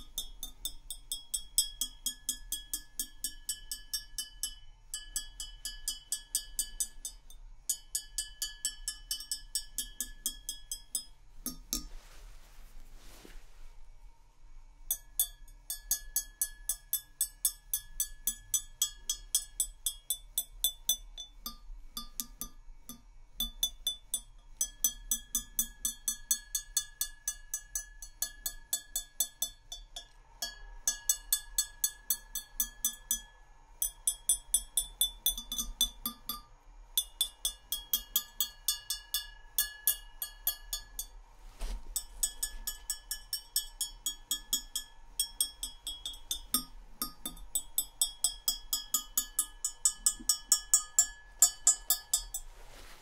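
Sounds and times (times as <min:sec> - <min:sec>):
tapping on glass: 0:00.0 - 0:11.9, 0:14.9 - 0:41.1, 0:42.0 - 0:52.4.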